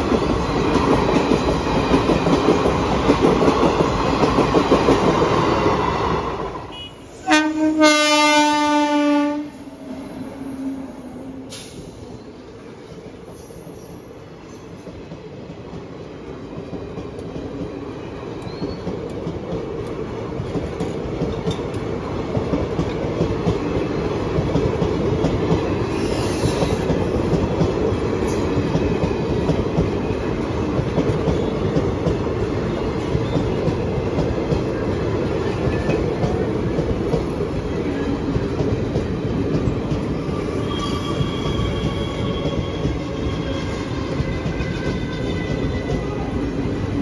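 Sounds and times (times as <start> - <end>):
train wheels clattering over rails: 0.0 - 5.8, 14.6 - 47.0.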